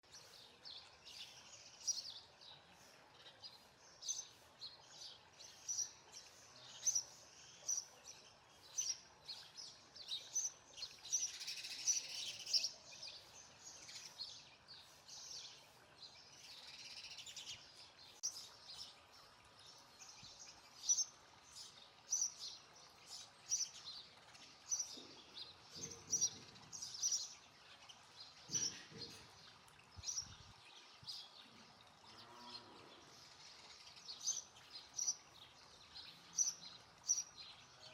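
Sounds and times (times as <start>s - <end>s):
sparrows chirping: 0.0s - 37.9s.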